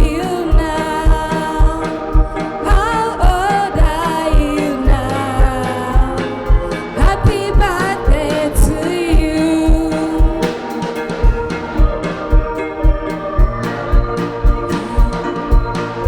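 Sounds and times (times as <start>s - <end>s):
kick drum beat: 0.0s - 16.0s
person singing: 0.0s - 16.0s.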